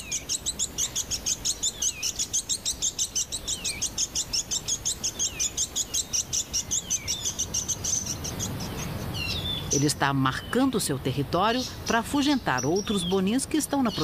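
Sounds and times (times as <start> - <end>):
bird high chirps: 0.0 - 14.0.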